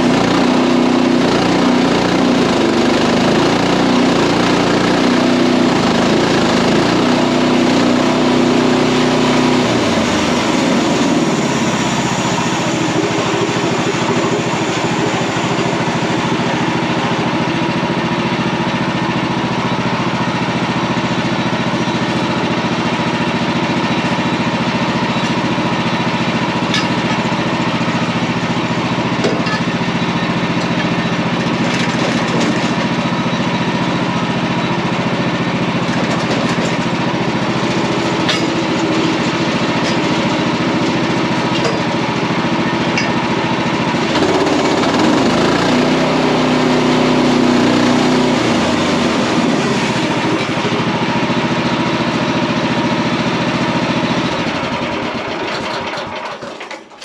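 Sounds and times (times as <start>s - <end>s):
small engine under load: 0.0s - 57.0s.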